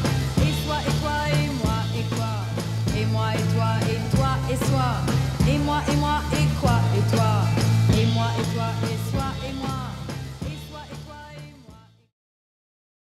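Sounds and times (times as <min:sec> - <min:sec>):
song with drums and bass: 0:00.0 - 0:12.0.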